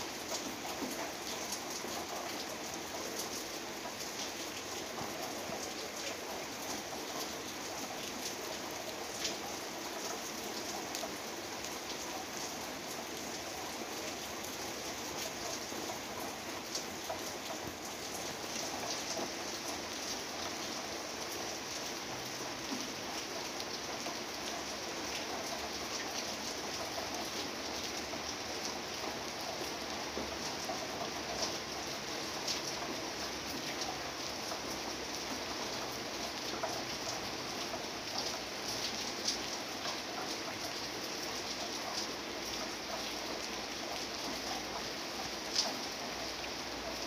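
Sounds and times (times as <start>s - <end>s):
rain pattering on leaves: 0.0s - 47.0s.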